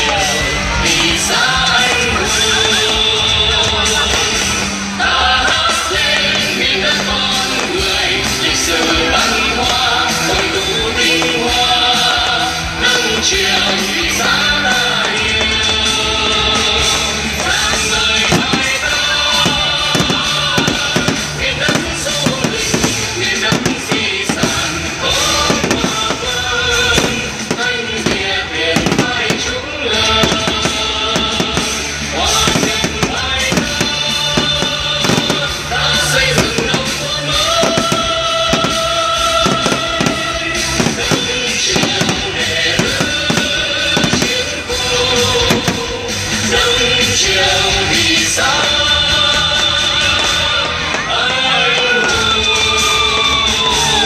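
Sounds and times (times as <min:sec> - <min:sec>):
fireworks bursting with bangs and crackles: 0:00.0 - 0:54.0
music playing: 0:00.0 - 0:54.0.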